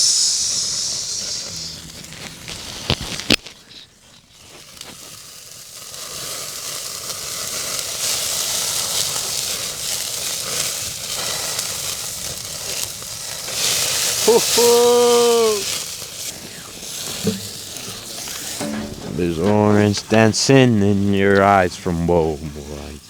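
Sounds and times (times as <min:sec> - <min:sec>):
patties sizzling in a pan: 0:00.0 - 0:03.4, 0:04.0 - 0:23.0.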